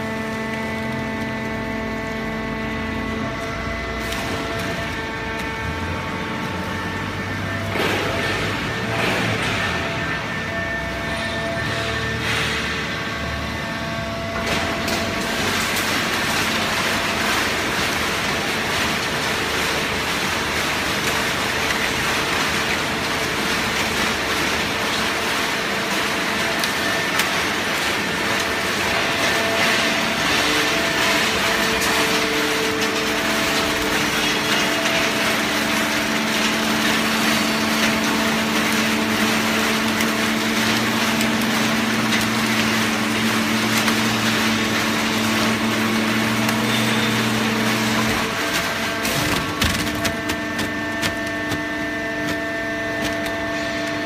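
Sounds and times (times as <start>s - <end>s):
hydraulic baling press running: 0.0s - 54.0s.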